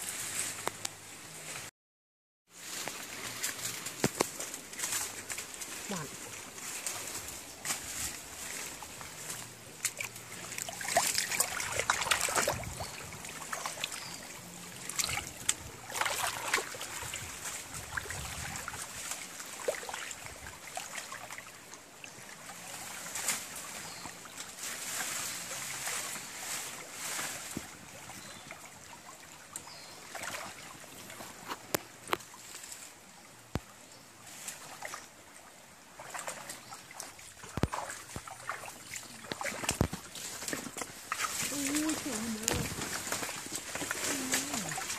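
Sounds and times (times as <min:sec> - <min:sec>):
stream water splashing: 0:02.5 - 0:44.9.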